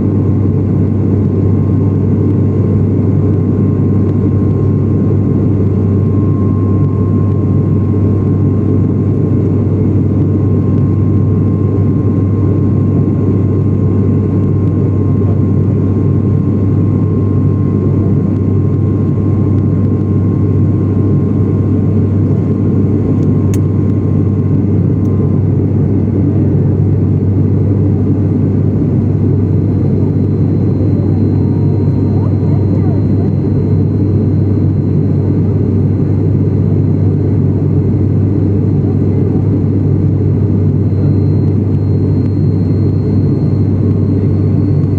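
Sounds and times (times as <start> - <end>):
airliner engines droning in cabin: 0.0 - 44.9
faint steady whine: 0.0 - 44.9.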